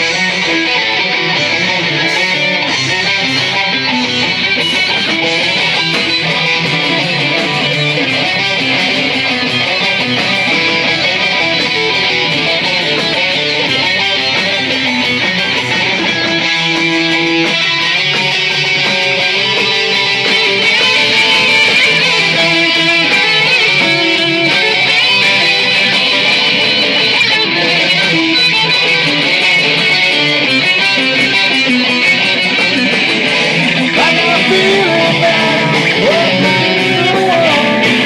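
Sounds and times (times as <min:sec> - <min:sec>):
strummed guitar music: 0:00.0 - 0:38.0.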